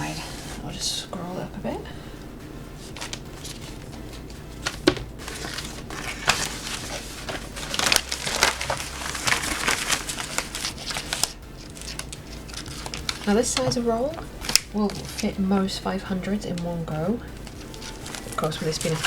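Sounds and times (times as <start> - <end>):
paper sheet crinkling and rustling: 0.0 - 0.6, 2.8 - 15.5, 16.5 - 19.0.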